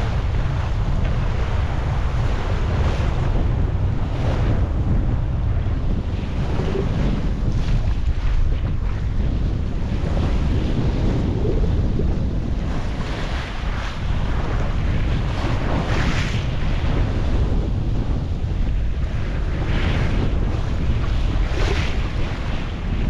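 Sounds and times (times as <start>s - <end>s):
sea waves washing past boat: 0.0s - 23.0s
strong wind buffeting microphone: 0.0s - 23.0s.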